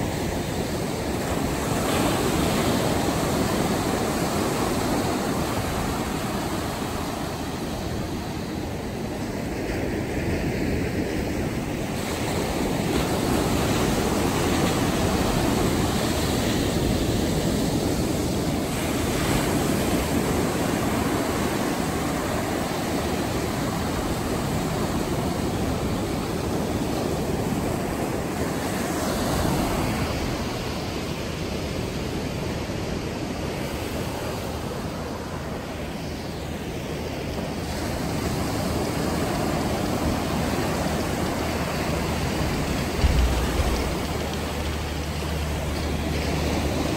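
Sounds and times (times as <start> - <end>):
surf breaking on a sandy beach: 0.0 - 46.9.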